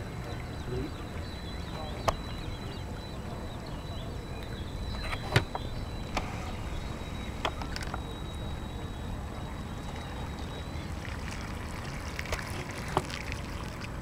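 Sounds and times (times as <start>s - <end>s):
faint steady high tone: 0.0s - 11.5s.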